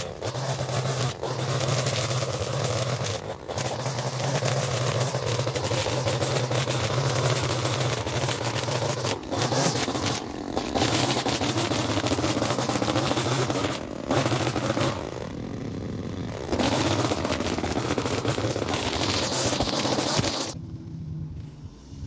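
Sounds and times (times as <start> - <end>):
small gasoline engine running: 0.0 - 20.6
constant rushing noise: 0.0 - 22.0.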